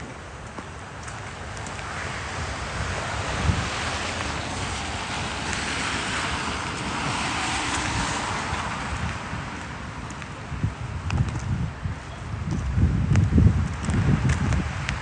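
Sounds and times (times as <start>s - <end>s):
traffic tyre noise: 0.0s - 15.0s
wind rumble on microphone: 0.0s - 15.0s.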